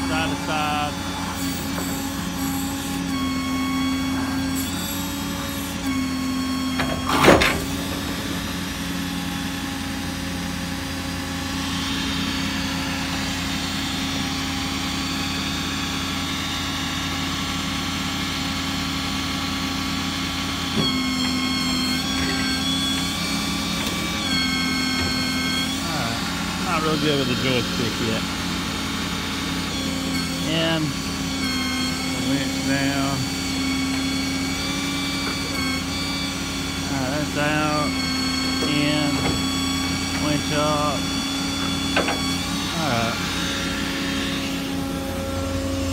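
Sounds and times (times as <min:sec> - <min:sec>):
diesel engine running: 0:00.0 - 0:45.9
hydraulic pump whine: 0:00.0 - 0:45.9.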